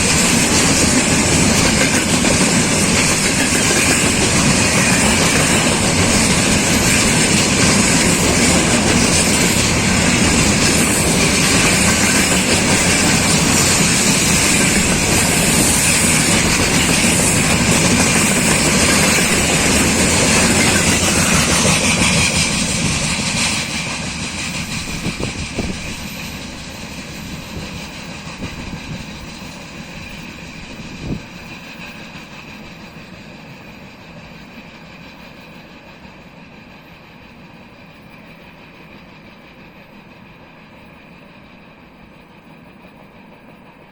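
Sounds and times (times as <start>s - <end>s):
train wheels clacking over rail joints: 0.0s - 43.8s.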